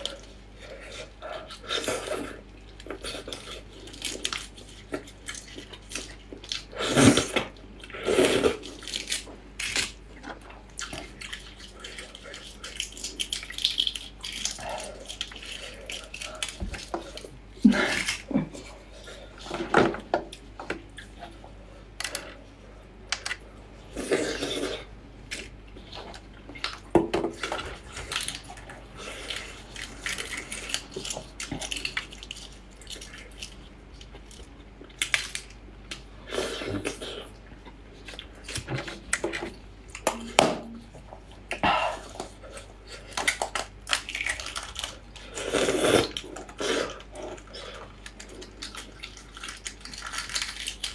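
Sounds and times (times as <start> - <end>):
egg shell crackling and peeling: 0.0 - 19.4, 25.2 - 39.3, 42.1 - 50.9.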